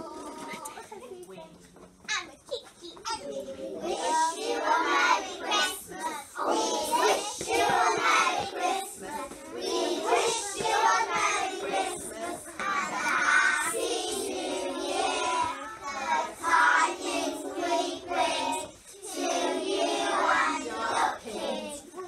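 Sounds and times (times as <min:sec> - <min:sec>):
children singing: 0:00.0 - 0:00.7, 0:03.4 - 0:22.0.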